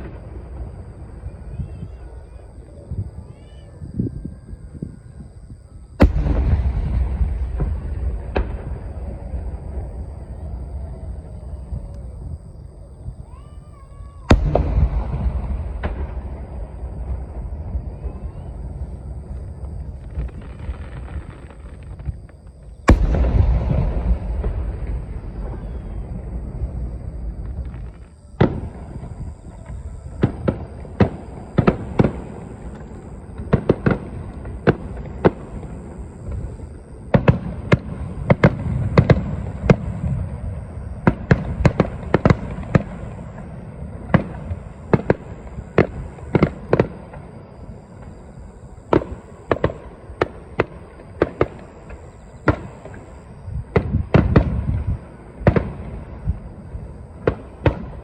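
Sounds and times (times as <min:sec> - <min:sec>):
fireworks bursting with sharp bangs: 0:00.0 - 0:58.0
low rumble of echoing booms: 0:04.0 - 0:13.5, 0:14.3 - 0:58.0.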